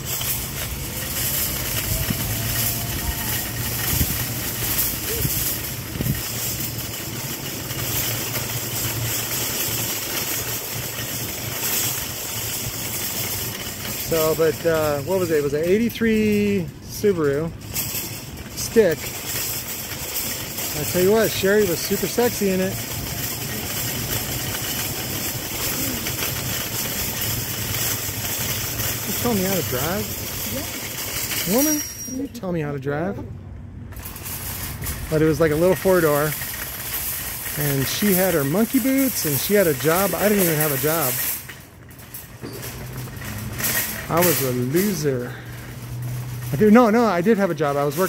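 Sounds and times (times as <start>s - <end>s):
car engine humming: 0.0s - 48.0s
road and wind hiss: 0.0s - 48.0s
tyres rolling on asphalt: 0.0s - 48.0s.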